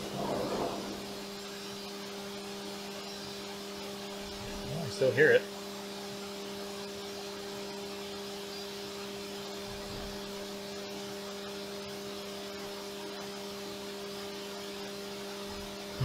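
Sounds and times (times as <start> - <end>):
coolant spray hiss: 0.0 - 16.0
spindle hum: 0.0 - 16.0.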